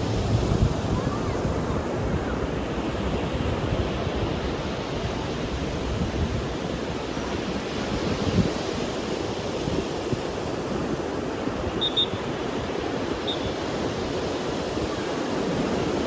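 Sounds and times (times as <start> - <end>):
ocean surf on beach: 0.0 - 16.0
wind rumble on microphone: 0.0 - 16.0.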